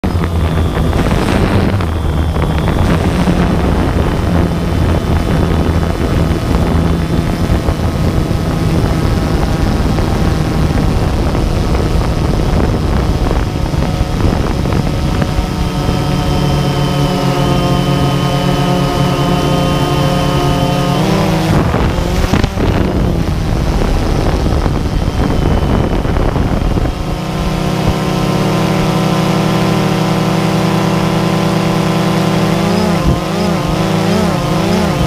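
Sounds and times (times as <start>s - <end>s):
drone motors whining: 0.0s - 35.0s
wind noise on microphone: 0.0s - 35.0s.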